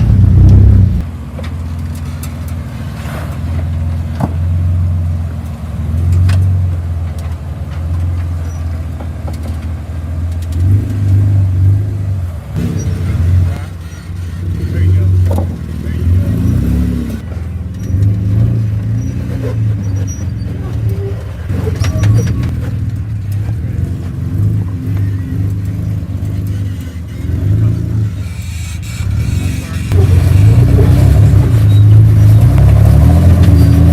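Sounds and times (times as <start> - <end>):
truck engine rumble: 0.0 - 33.9.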